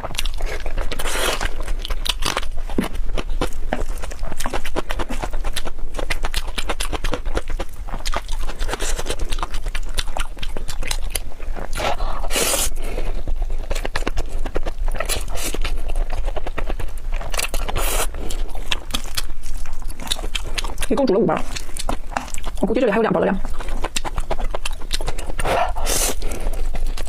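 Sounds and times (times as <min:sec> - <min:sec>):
shells clicking and chewing: 0:00.0 - 0:27.0.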